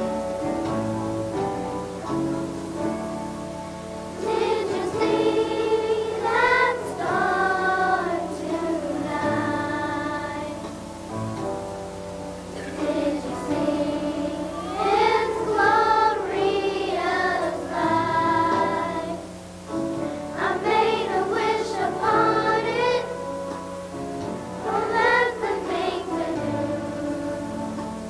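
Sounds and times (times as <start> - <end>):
children's choir singing: 0.0 - 28.0
instrumental accompaniment: 0.0 - 28.0.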